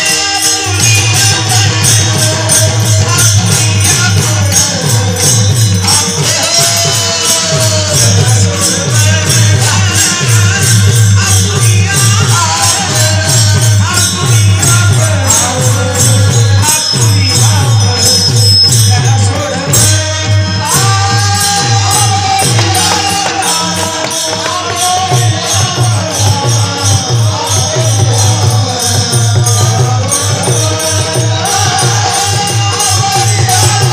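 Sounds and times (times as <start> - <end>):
drum beat: 0.0 - 33.9
man singing devotional melody: 0.0 - 33.9.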